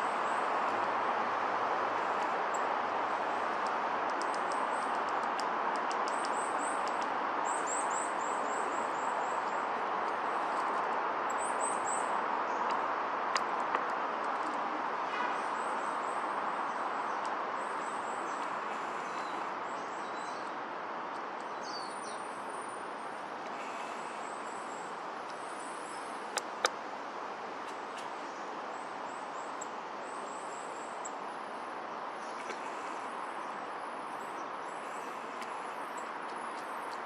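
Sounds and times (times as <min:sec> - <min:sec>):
outdoor background rush: 0:00.0 - 0:37.0
songbirds calling: 0:01.8 - 0:26.8, 0:27.6 - 0:37.0.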